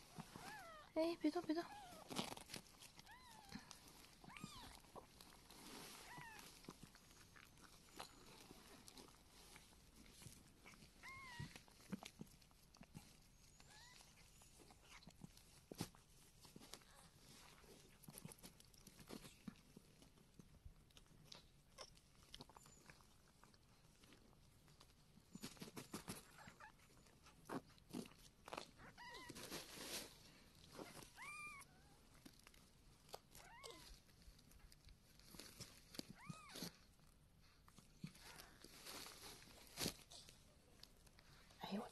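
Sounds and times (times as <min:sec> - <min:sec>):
small clicks and crinkles: 0:00.0 - 0:41.9.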